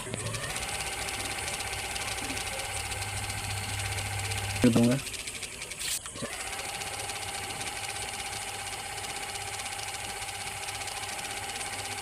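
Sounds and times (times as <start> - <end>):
ceiling fan motor humming: 0.0 - 12.0.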